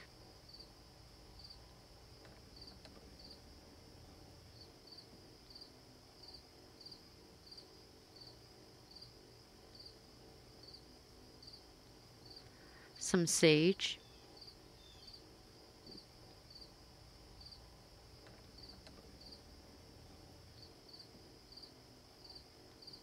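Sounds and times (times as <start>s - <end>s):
high insect hum: 0.0s - 23.0s
insects chirping: 0.0s - 23.0s.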